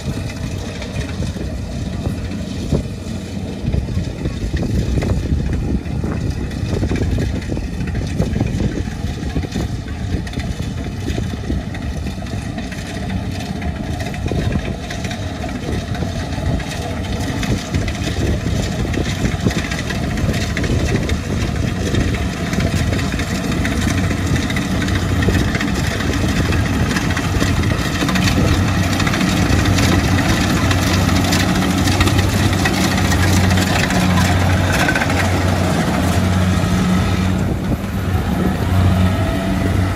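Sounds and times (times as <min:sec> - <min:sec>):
combine harvester running: 0:00.0 - 0:39.9
pulsing engine note: 0:00.0 - 0:39.9.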